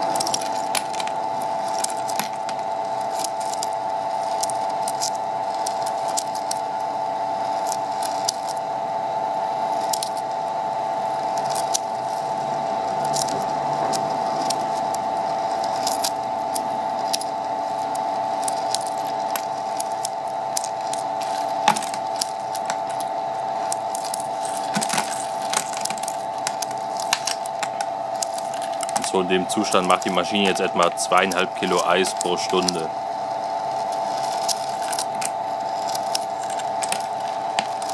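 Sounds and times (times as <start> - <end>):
ice crackling and clicking: 0.0 - 6.7, 7.6 - 8.6, 9.8 - 10.2, 11.3 - 12.1, 12.9 - 32.9, 33.8 - 37.9
ice machine whine: 0.0 - 37.9.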